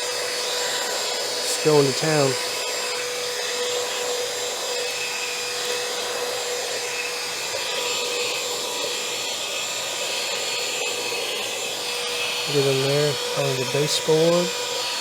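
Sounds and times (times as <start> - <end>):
handheld vacuum running: 0.0 - 15.0.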